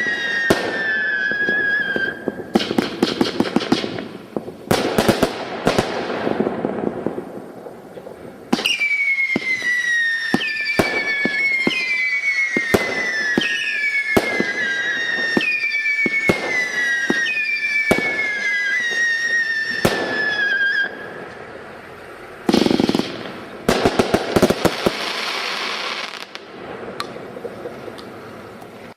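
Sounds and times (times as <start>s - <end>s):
dense firework crackling: 0.0s - 28.9s
firework bangs: 0.0s - 28.9s
firework cracks: 0.0s - 28.9s
whistling firework shots: 0.0s - 28.9s.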